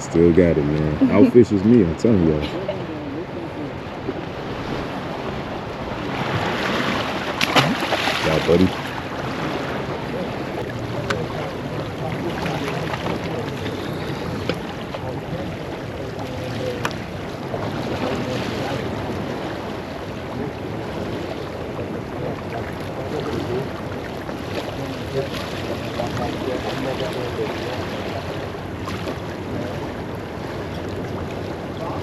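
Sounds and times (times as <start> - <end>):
water washing around pier: 0.0 - 32.0
wind buffeting microphone: 0.0 - 32.0.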